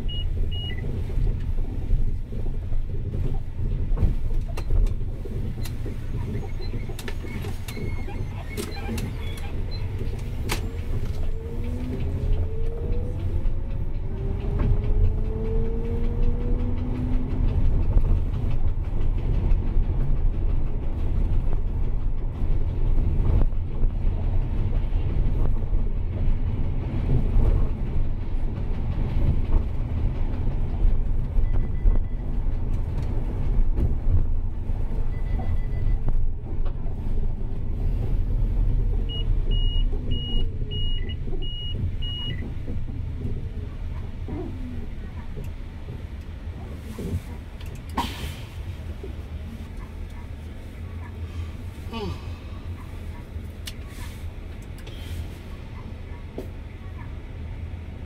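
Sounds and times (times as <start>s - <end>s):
car engine driving: 0.0s - 58.0s.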